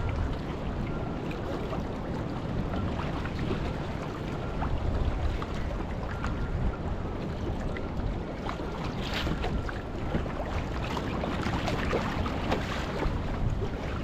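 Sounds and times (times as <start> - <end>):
sea water splashing against boat: 0.0 - 14.0
wind buffeting microphone: 0.0 - 14.0.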